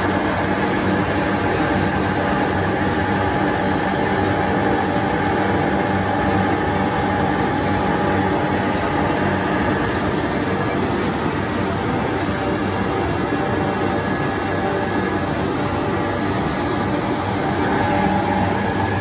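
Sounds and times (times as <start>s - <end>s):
loud machine running: 0.0s - 19.0s.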